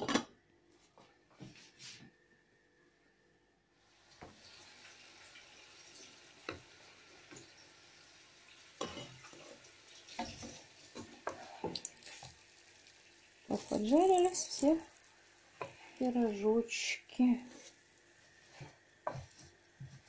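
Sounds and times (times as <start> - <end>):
food sizzling in oil: 3.8 - 20.0.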